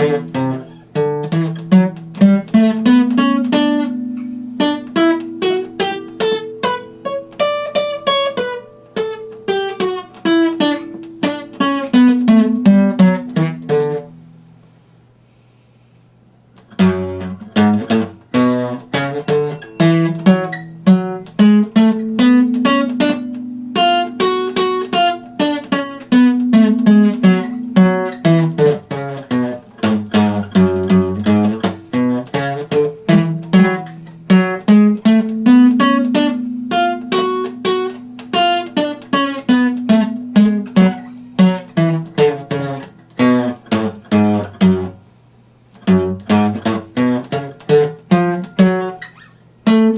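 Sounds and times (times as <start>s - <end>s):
acoustic guitar plucked: 0.0s - 14.8s, 16.6s - 49.9s.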